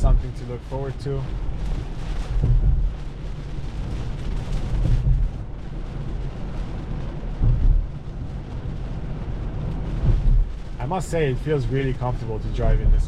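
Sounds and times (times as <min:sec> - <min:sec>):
heavy rain on car: 0:00.0 - 0:13.0
wet road noise rumble: 0:00.0 - 0:13.0.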